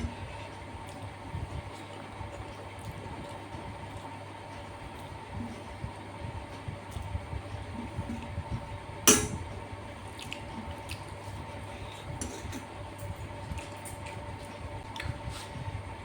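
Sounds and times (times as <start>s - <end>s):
wet squishing and smacking of eating: 0.0s - 8.8s, 9.4s - 15.8s
steady low hum: 0.0s - 16.0s.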